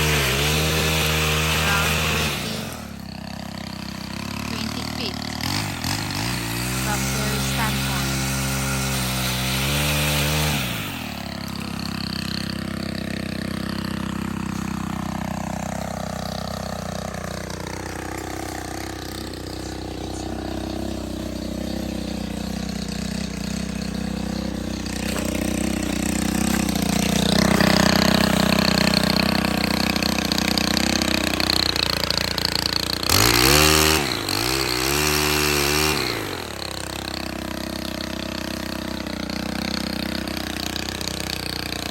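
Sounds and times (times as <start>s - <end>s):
pole saw petrol engine revving: 0.0s - 41.9s
saw cutting through limb: 0.0s - 41.9s.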